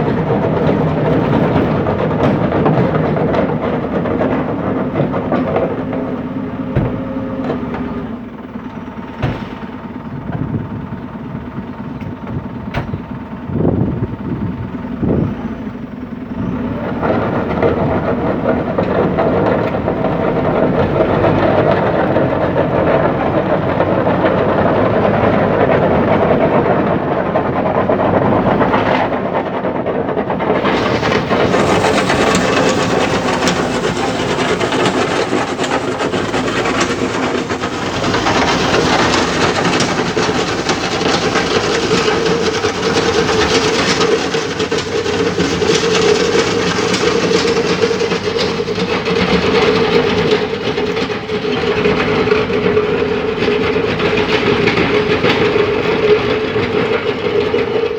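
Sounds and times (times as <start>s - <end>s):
heavy construction machinery rattling: 0.0s - 57.9s.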